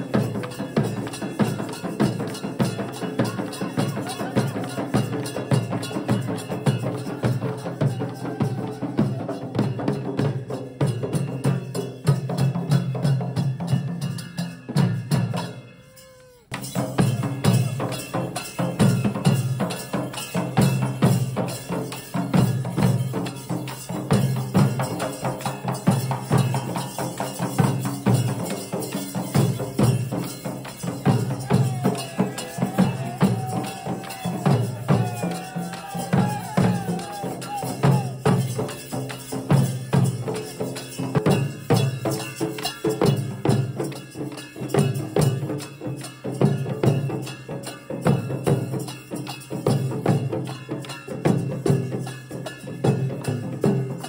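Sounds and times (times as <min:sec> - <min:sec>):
barrel drums beaten with sticks: 0:00.0 - 0:15.6, 0:16.5 - 0:54.0.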